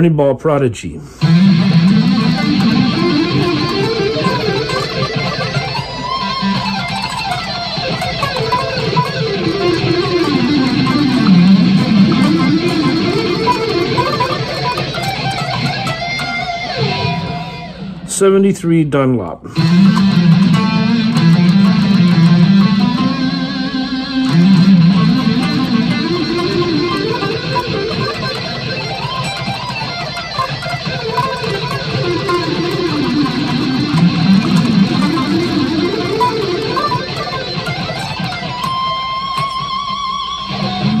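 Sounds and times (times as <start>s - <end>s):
electric guitar lead lines: 1.1s - 41.0s.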